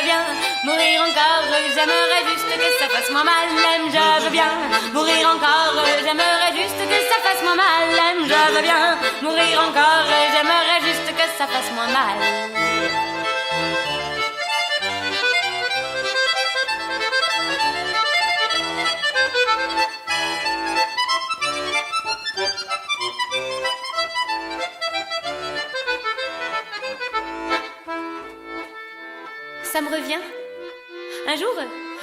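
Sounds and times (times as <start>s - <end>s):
solo instrumental melody: 0.0s - 32.0s.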